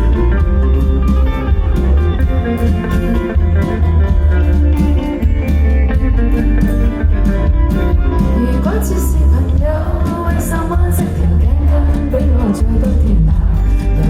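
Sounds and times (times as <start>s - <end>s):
guitar: 0.0s - 14.0s
heavy bass: 0.0s - 14.0s.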